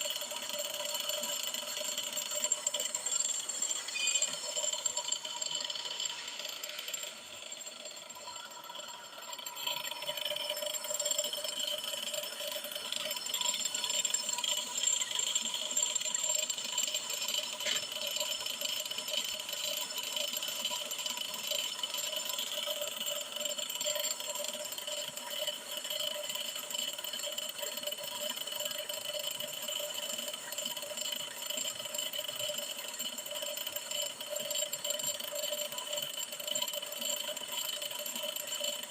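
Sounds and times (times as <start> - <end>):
brake lathe metallic whine: 0.0 - 38.9.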